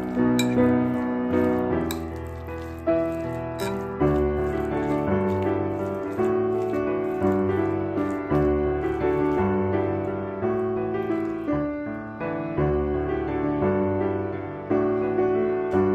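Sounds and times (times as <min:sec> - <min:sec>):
piano music: 0:00.0 - 0:15.9.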